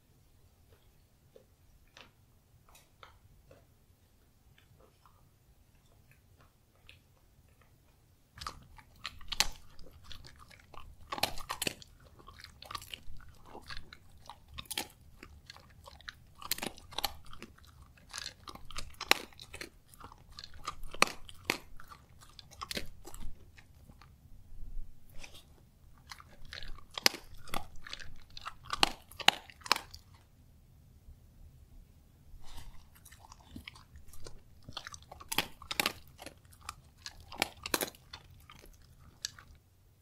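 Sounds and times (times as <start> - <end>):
crunchy chewing: 4.5 - 24.2, 25.0 - 30.3, 32.4 - 39.7.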